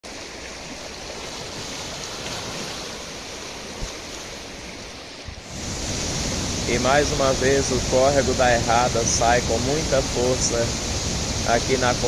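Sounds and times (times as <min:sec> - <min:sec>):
flooded creek rushing: 0:00.0 - 0:12.0.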